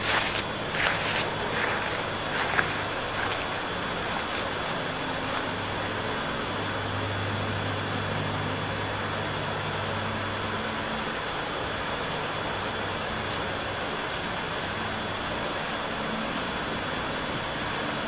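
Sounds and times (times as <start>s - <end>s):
electric fans blowing air: 0.0s - 18.0s
low fan hum: 0.0s - 18.0s.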